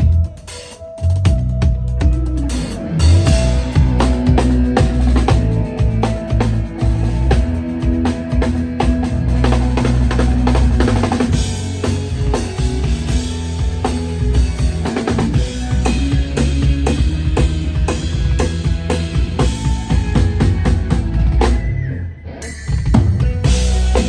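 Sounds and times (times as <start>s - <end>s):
drum kit playing: 0.0s - 21.8s, 22.5s - 24.0s
low bass notes: 0.0s - 22.2s, 22.8s - 24.0s.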